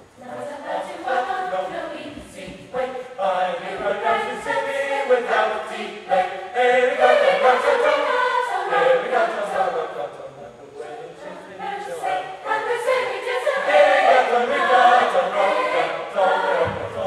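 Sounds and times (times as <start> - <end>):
mixed choir singing in harmony: 0.0 - 17.0.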